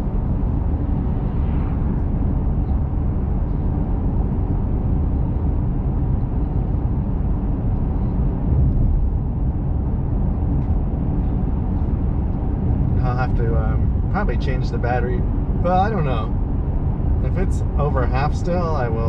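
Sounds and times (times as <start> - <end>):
truck road and engine rumble: 0.0 - 19.0.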